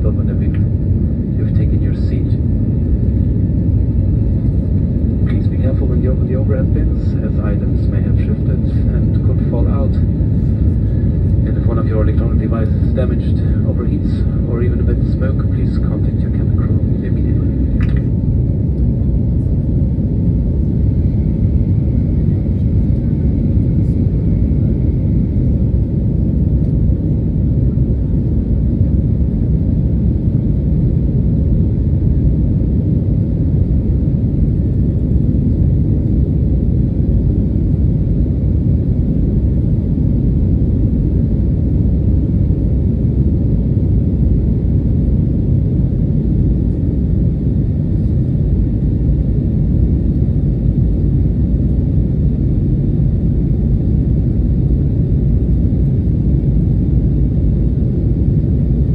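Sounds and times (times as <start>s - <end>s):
aircraft engines and rushing air: 0.0s - 58.9s.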